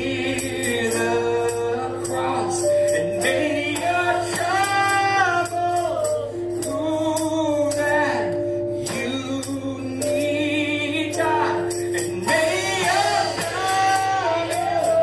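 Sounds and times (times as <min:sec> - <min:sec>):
tambourine beat: 0:00.0 - 0:10.4, 0:11.0 - 0:15.0
band playing: 0:00.0 - 0:15.0
person singing gospel: 0:00.0 - 0:15.0.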